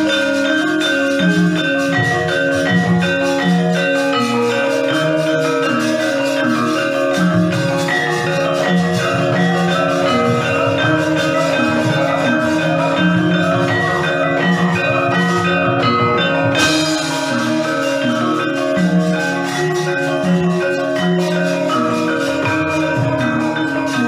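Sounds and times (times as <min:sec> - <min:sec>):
gamelan music: 0:00.0 - 0:24.0.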